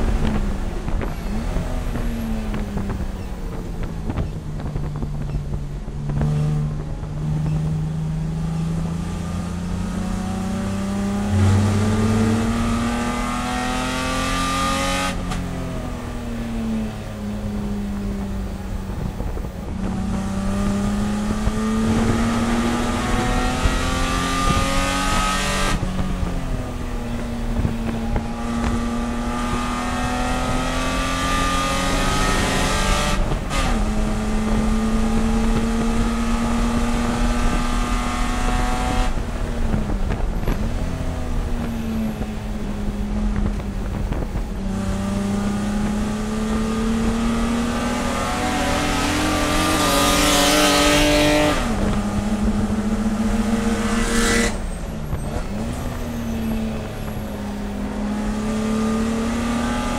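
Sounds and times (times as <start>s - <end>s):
race car engine at high revs: 0.0s - 59.9s
wind and tyre noise: 0.0s - 59.9s.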